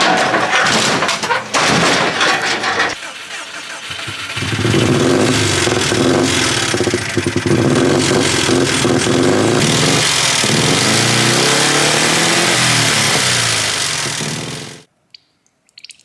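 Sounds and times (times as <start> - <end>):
car engine running: 2.0 - 14.9.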